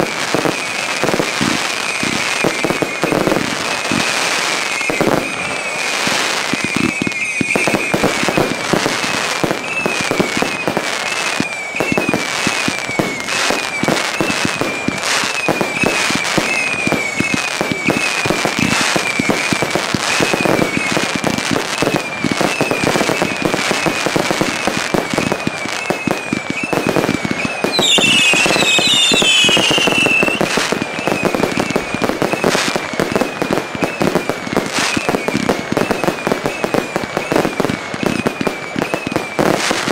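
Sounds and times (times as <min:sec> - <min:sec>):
fireworks crackling: 0:00.0 - 0:39.9
fireworks whistles falling in pitch: 0:00.0 - 0:39.9.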